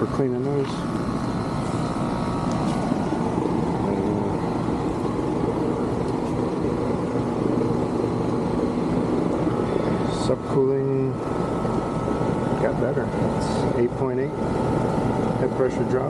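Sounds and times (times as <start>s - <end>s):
air conditioner unit droning: 0.0s - 16.0s.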